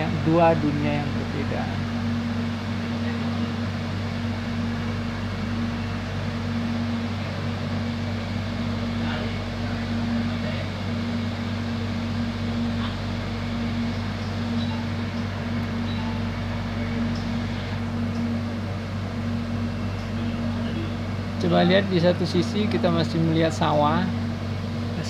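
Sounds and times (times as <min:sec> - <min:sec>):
train carriage droning hum: 0:00.0 - 0:25.0.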